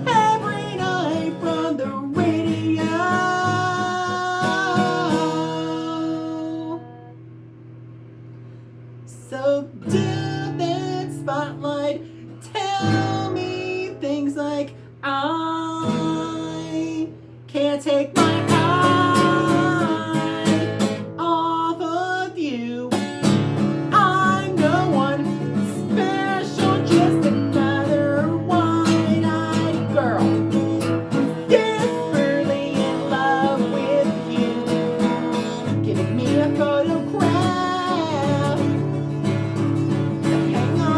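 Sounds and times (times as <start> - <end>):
person singing: 0.0 - 7.1, 9.1 - 23.0, 23.9 - 40.9
acoustic guitar strumming: 0.0 - 7.5, 9.3 - 22.2, 22.9 - 40.9.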